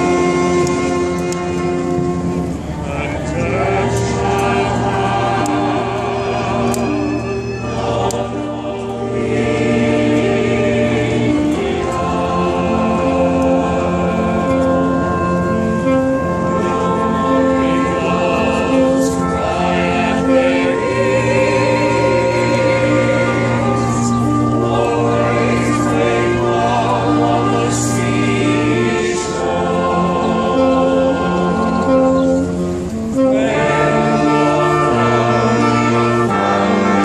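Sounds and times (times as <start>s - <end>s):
brass band playing: 0.0s - 37.0s
choir singing chords: 0.0s - 37.0s.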